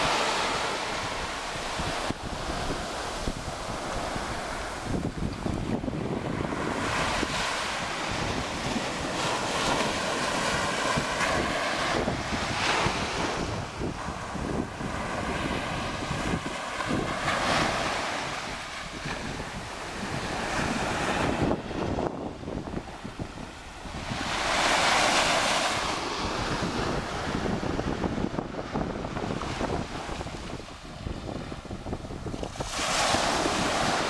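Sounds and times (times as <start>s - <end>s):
surf washing on sand: 0.0s - 34.0s
wind buffeting microphone: 0.0s - 34.0s.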